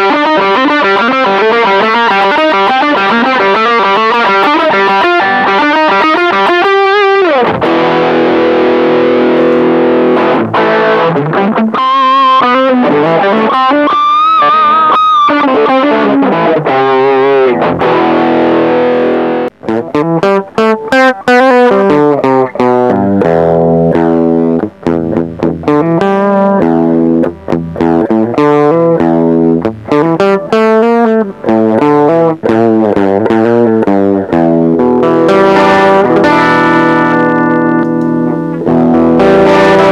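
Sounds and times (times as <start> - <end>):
electric guitar: 0.0 - 39.9.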